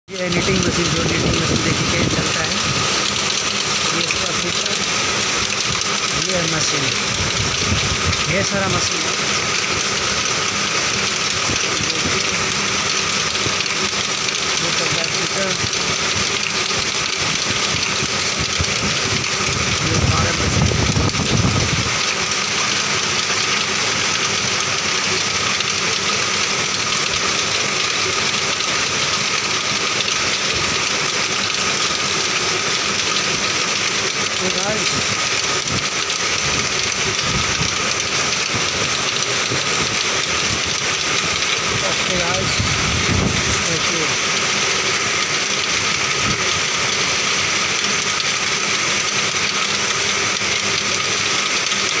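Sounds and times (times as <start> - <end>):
high machine whine: 0.1 - 52.0
knitting machines running: 0.1 - 52.0.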